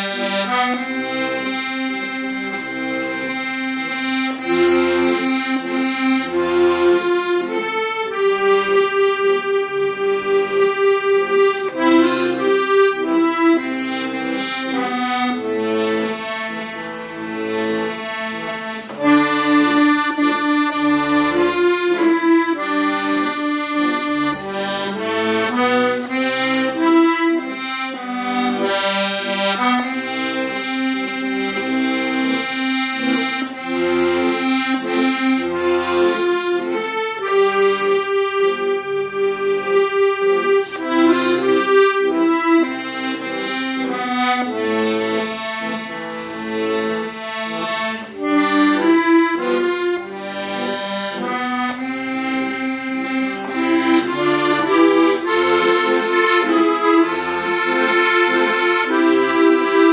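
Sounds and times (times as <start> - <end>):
accordion playing slow melody: 0.0 - 59.9.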